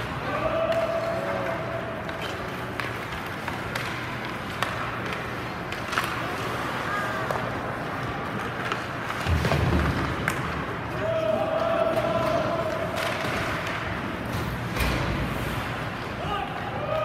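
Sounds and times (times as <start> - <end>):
skate blades scraping ice: 0.0 - 16.3
sticks and puck clacking: 0.0 - 17.0.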